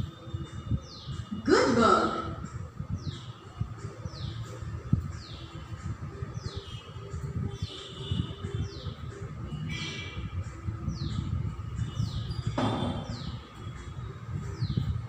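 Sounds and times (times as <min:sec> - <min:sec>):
birds chirping: 0:00.0 - 0:15.0
low rumbling background noise: 0:00.0 - 0:15.0.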